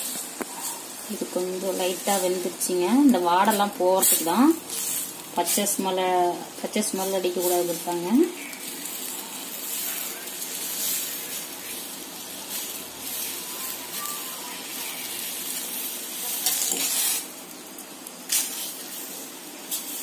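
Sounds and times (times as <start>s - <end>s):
steady hiss of hot water: 0.0s - 20.0s
steel spoon stirring leaves: 0.0s - 20.0s.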